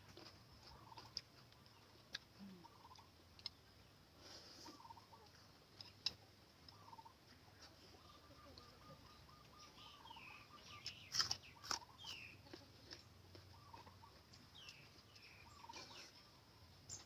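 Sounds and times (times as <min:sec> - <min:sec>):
chickens clucking: 0:00.6 - 0:03.2, 0:04.4 - 0:17.0.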